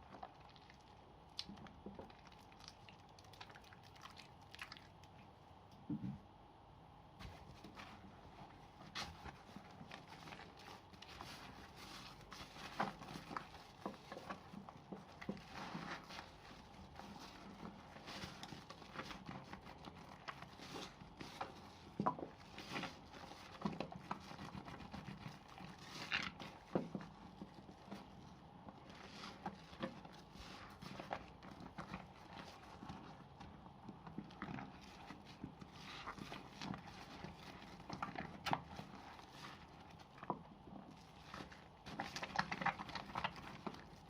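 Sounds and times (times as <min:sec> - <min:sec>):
wet soap squelching: 0:00.0 - 0:05.8, 0:07.2 - 0:44.0.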